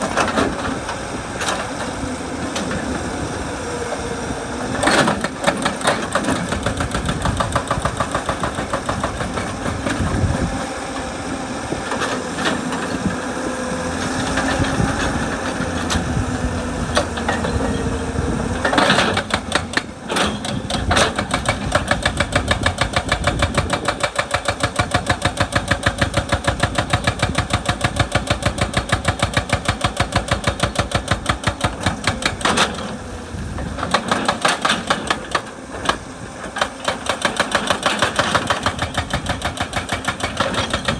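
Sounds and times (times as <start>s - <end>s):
hydraulic breaker hammering rock: 0.0s - 4.0s, 4.6s - 40.9s
excavator diesel engine running: 0.0s - 40.9s.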